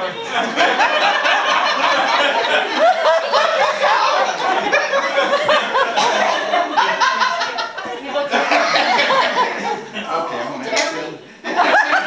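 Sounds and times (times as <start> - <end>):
group of adults laughing: 0.0 - 10.5, 11.3 - 12.0
chatter: 0.0 - 12.0.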